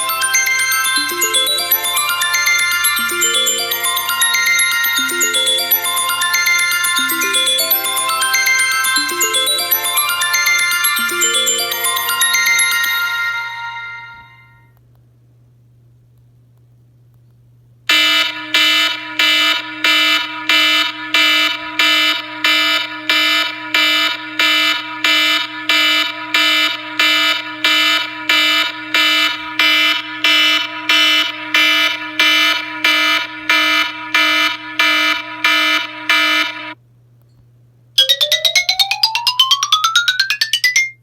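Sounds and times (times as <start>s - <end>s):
buzzy pulsing phone ringtone: 0.0s - 14.7s, 18.0s - 36.8s, 38.0s - 41.0s.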